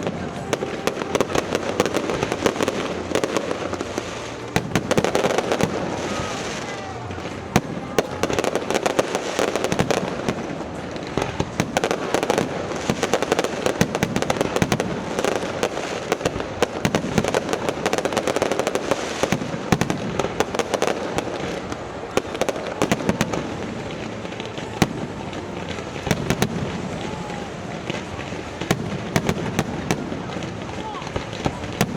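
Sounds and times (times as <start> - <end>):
fireworks bangs and crackles: 0.0 - 31.9.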